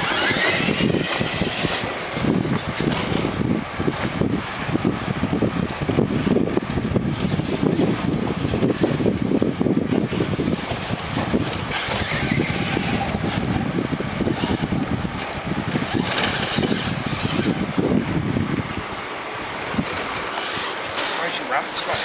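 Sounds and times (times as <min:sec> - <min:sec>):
remote-control truck motor rumbling: 0:00.0 - 0:22.0
wind buffeting microphone: 0:00.0 - 0:22.0.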